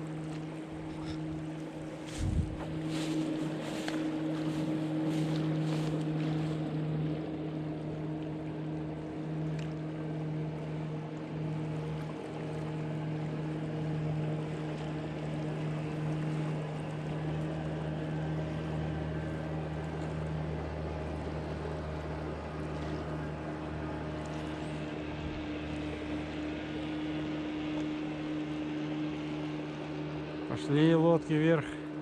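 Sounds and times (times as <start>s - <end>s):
outboard motorboat engine droning: 0.0s - 32.0s.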